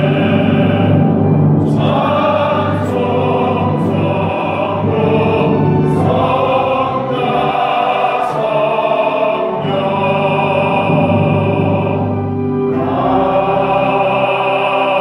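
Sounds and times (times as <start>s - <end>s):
congregation singing a hymn: 0.0s - 15.0s
instrumental accompaniment: 0.0s - 15.0s.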